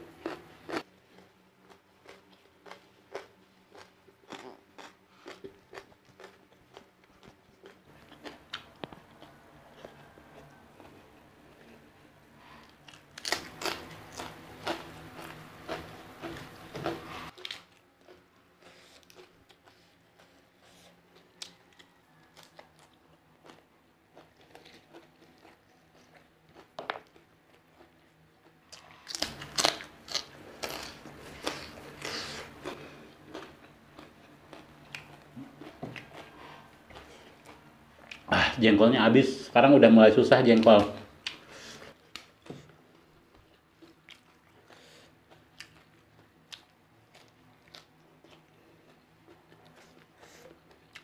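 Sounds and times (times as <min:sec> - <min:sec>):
person crunching food: 0:00.2 - 0:11.8, 0:12.6 - 0:38.3, 0:42.0 - 0:51.0.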